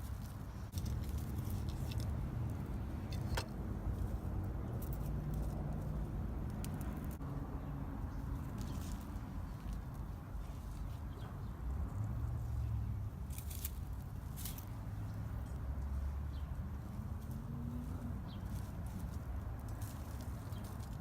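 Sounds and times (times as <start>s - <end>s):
hands working garden soil: 0.0s - 7.2s, 8.0s - 21.0s
distant traffic rumble: 0.0s - 21.0s.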